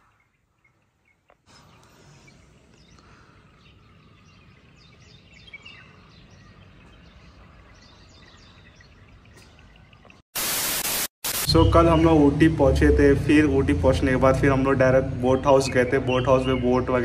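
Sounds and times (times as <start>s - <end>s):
birds chirping: 0.0s - 10.2s, 11.5s - 17.0s.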